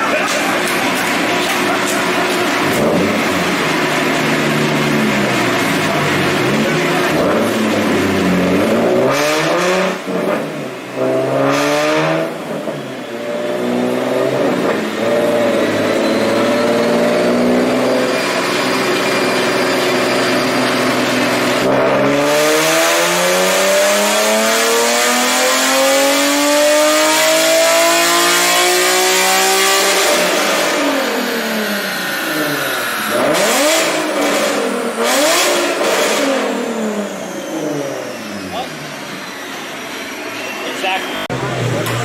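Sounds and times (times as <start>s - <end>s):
car engine accelerating: 0.0s - 42.0s.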